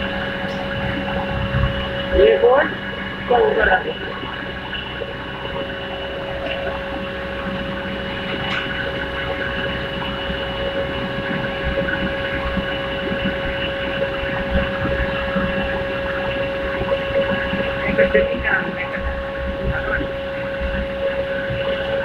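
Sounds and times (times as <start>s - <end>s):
furnace hum: 0.0s - 22.0s
molten metal pouring rush: 0.0s - 22.0s.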